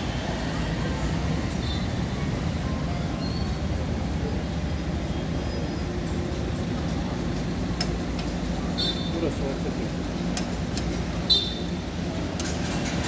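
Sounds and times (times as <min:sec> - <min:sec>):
busy griddle stall rumble: 0:00.0 - 0:13.0.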